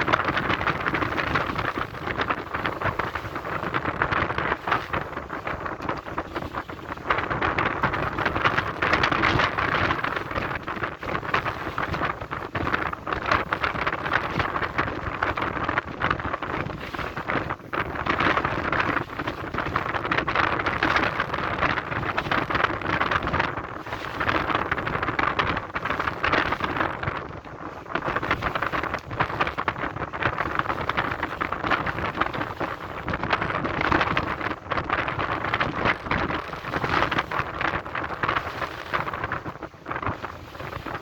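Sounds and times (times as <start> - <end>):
strong wind gusting: 0.0 - 41.0.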